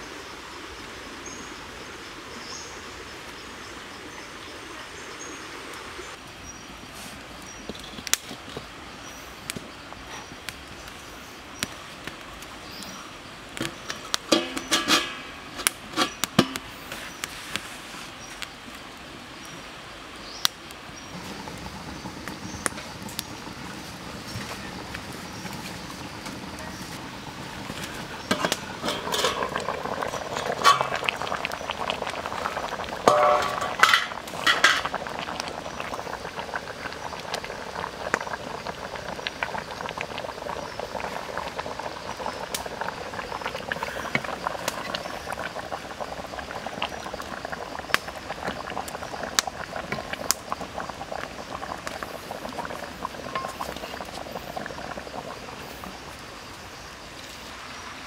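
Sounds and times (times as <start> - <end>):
broth boiling in wok: 0.2 - 58.0.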